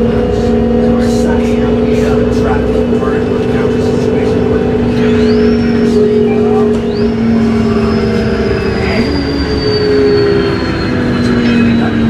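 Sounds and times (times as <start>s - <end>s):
bus interior engine drone: 0.0s - 12.0s.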